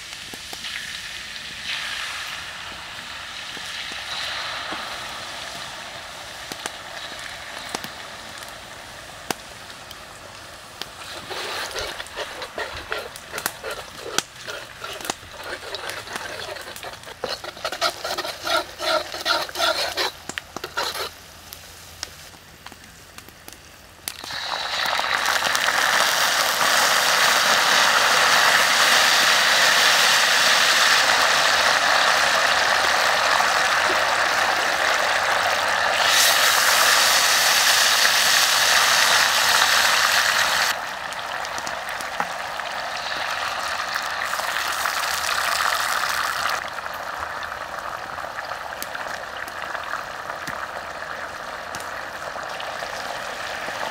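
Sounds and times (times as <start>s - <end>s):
food sizzling in hot oil: 0.0s - 22.3s, 24.0s - 53.9s.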